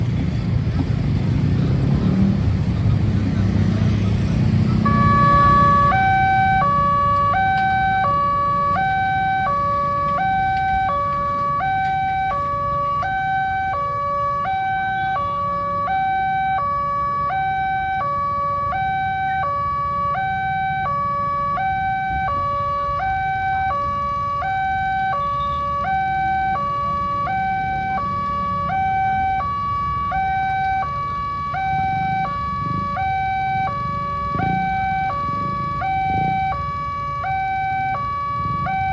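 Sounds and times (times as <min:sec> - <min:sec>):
low traffic rumble: 0:00.0 - 0:38.9
two-tone level crossing alarm: 0:04.8 - 0:38.9.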